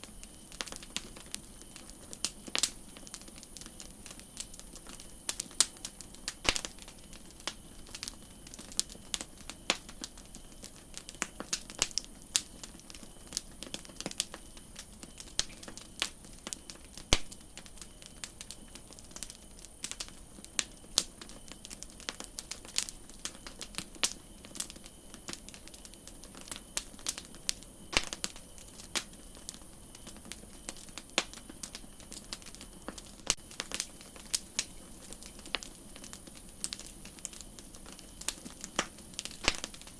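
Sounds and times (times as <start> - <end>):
campfire crackling: 0.0 - 39.9
faint steady hiss: 0.0 - 39.9.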